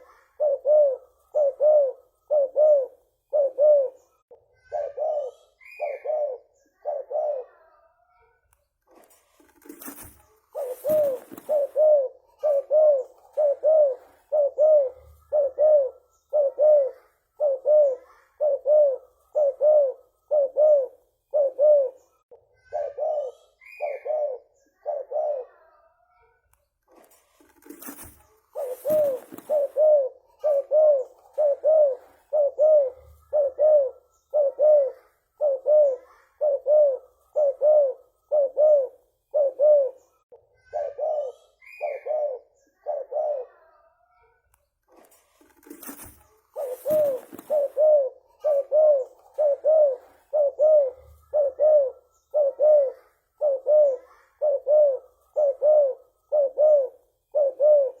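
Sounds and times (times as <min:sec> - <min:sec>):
dove cooing: 0:00.0 - 0:07.8, 0:09.3 - 0:25.8, 0:27.0 - 0:44.0, 0:44.9 - 0:58.0.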